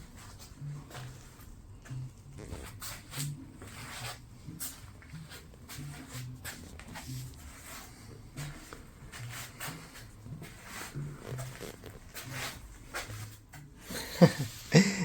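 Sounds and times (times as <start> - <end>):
quiet shuffling steps: 0.0 - 14.8.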